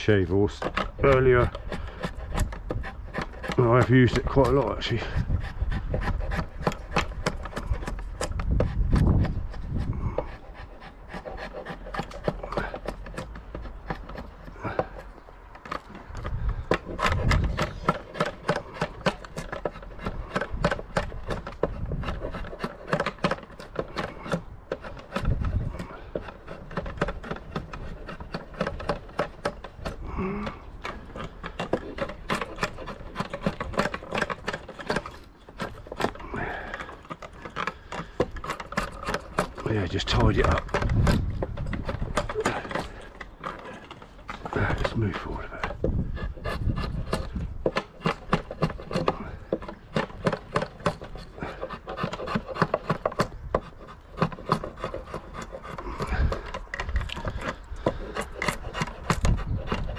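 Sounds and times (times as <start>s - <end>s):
draw knife scraping wood: 0.0s - 59.9s.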